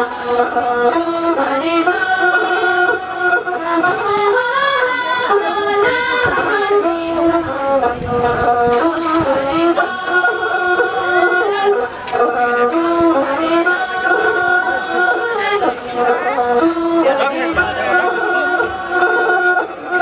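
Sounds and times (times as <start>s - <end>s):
instrumental backing: 0.0s - 20.0s
women singing together: 0.0s - 20.0s.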